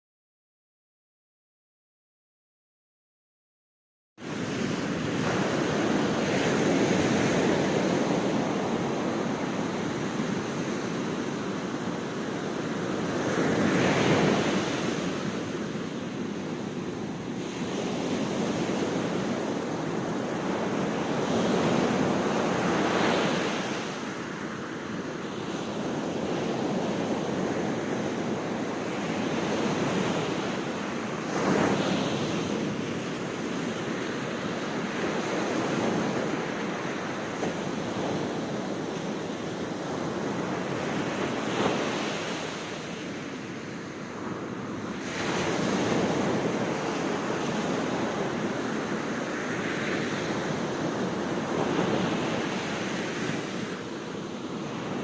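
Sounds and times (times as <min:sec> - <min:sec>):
sea waves breaking on beach: 0:04.2 - 0:55.0.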